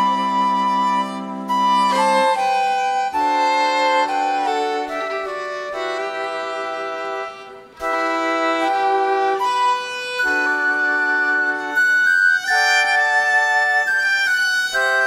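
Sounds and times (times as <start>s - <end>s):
electronic keyboard accompaniment: 0.0s - 15.0s
violin playing slow melody: 0.0s - 15.0s.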